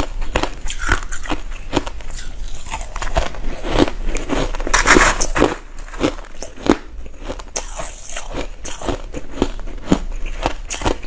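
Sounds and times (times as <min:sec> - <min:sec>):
crushed ice being chewed: 0:00.0 - 0:11.0.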